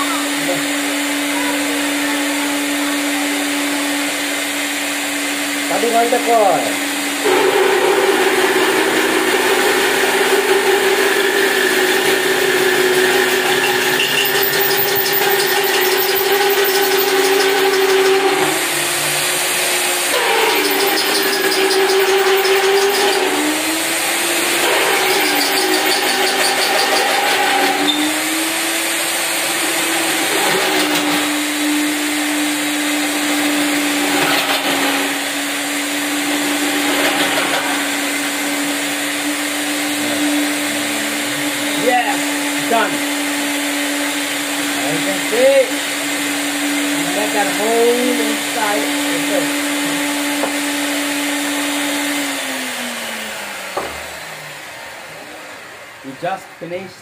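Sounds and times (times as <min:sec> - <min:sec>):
magnetic drill motor running: 0:00.2 - 0:55.6.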